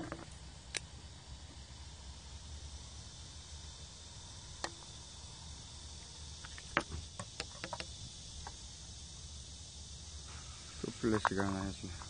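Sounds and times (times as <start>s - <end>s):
high background hiss: 0.0s - 12.0s.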